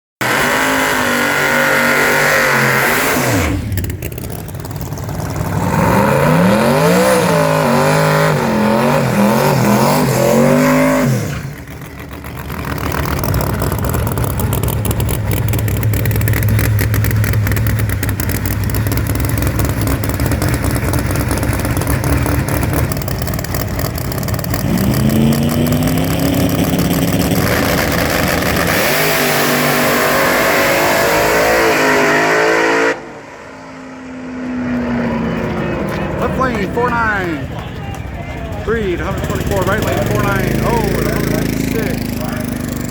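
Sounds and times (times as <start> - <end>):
drag race car engines revving: 0.2 - 42.9.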